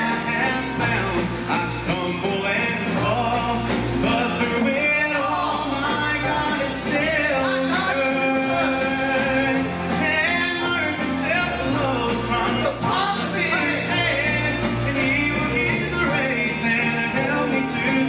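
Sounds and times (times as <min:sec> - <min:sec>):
electric bass: 0:00.0 - 0:18.0
person singing: 0:00.0 - 0:18.0
strummed acoustic guitar: 0:00.0 - 0:18.0.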